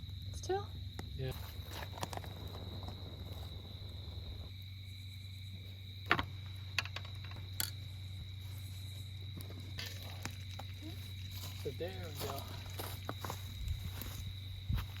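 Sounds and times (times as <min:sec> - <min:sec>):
campfire pops: 0:00.0 - 0:04.9, 0:05.5 - 0:08.4, 0:09.1 - 0:14.3
crickets chirring: 0:00.0 - 0:15.0.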